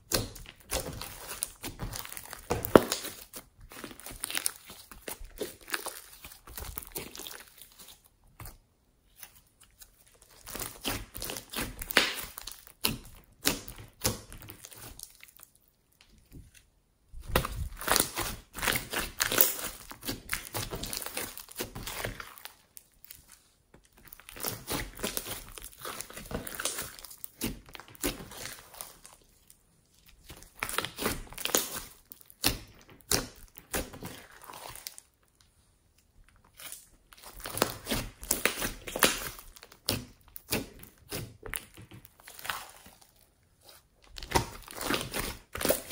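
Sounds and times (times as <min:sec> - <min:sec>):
hands squishing slime: 0:00.0 - 0:45.9
wet crackling and popping: 0:00.1 - 0:08.6, 0:09.9 - 0:16.6, 0:17.2 - 0:43.2.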